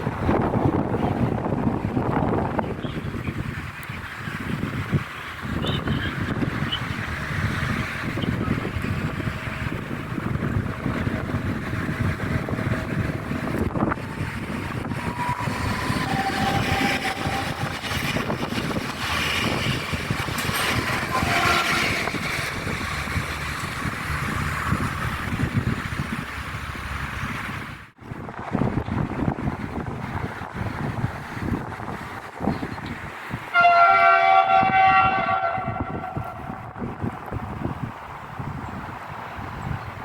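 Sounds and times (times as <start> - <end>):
train passing rumble: 0.0 - 40.0
wind buffeting microphone: 0.0 - 40.0.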